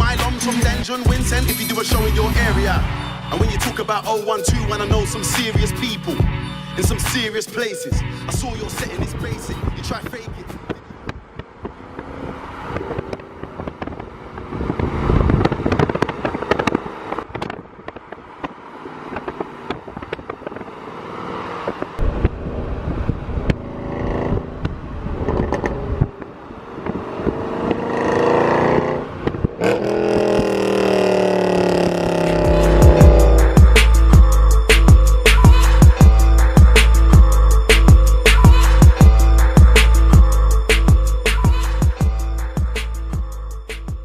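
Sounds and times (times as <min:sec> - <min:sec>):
car engine revving: 0:08.3 - 0:43.9.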